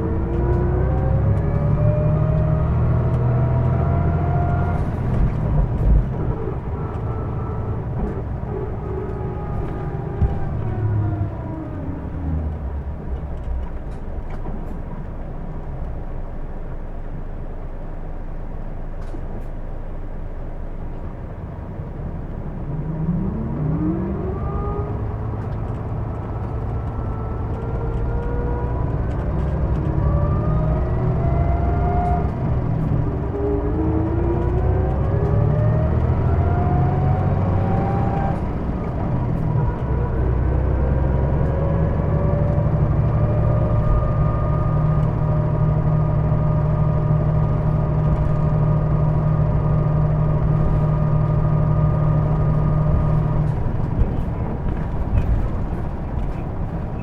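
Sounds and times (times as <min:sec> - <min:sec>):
bus engine whine: 0:00.0 - 0:57.0
bus running interior: 0:00.0 - 0:57.0.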